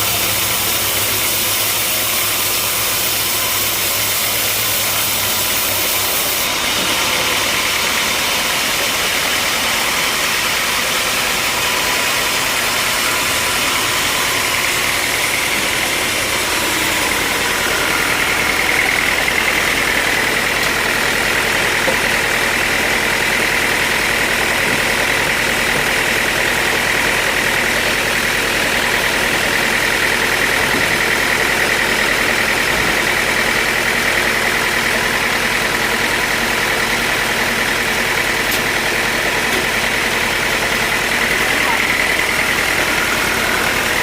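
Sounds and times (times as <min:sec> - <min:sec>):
high machine whine: 0:00.0 - 0:44.0.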